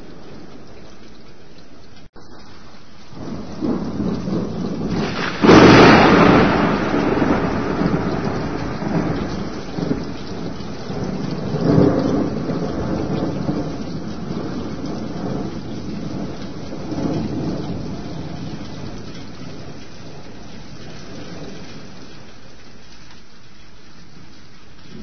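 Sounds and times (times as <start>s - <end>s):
steady rain: 0.0s - 25.0s
thunder rumbling: 2.2s - 22.5s.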